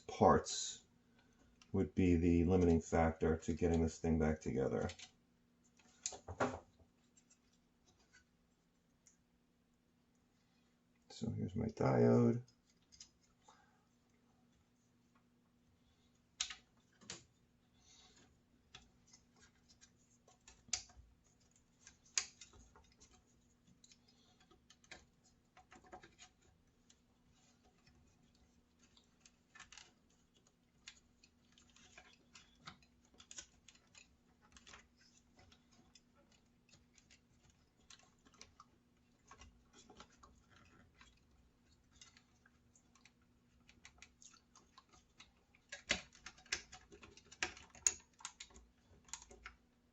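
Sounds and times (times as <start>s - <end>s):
plastic parts clicking and scraping: 2.5s - 8.3s, 12.5s - 13.5s, 16.1s - 49.7s.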